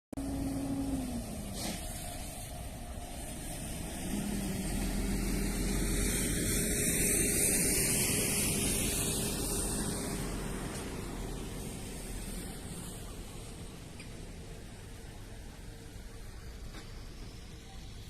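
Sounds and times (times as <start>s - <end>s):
engine hum: 0.1s - 18.0s
traffic hiss: 0.2s - 18.0s.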